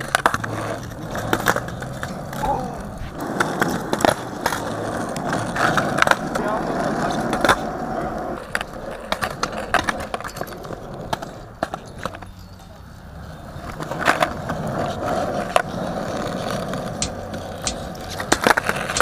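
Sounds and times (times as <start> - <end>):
skateboard clacking on ground: 0.0 - 19.0
skateboard wheels rolling on concrete: 0.0 - 19.0.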